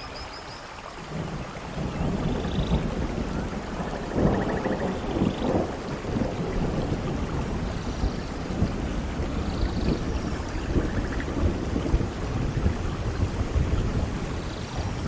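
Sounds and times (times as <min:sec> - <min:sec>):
heavy rain: 0:00.0 - 0:15.0
low rumbling thunder: 0:01.1 - 0:15.0.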